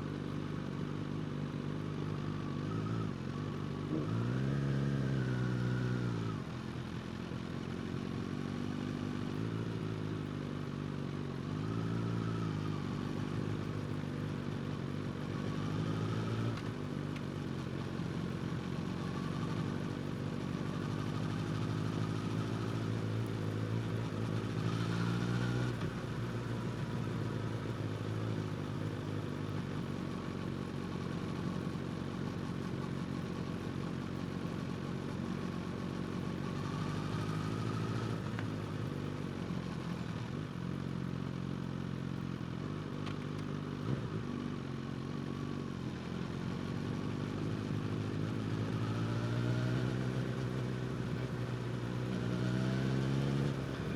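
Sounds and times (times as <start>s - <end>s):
motorcycle engine accelerating: 2.2s - 10.1s, 10.7s - 53.9s.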